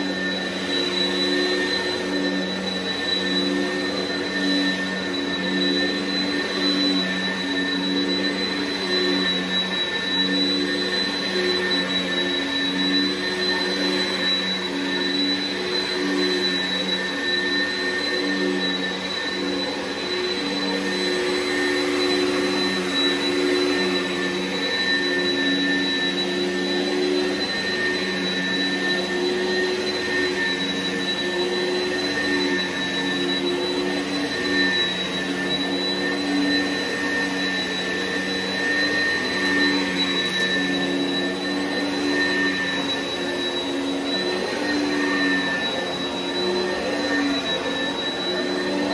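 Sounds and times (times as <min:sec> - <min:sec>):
vacuum cleaner running on carpet: 0:00.0 - 0:48.9.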